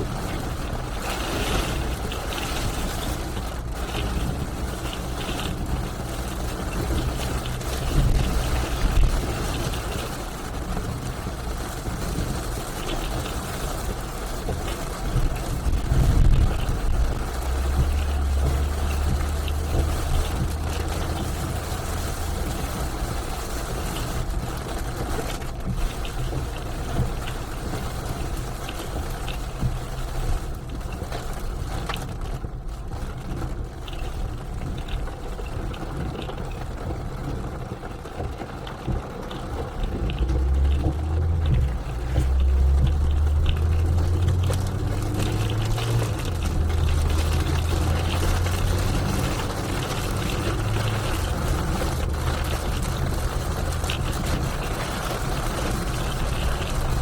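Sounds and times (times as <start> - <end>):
heavy rain: 0.0 - 57.0
low engine rumble: 0.0 - 57.0
tyre spray on wet road: 0.0 - 57.0.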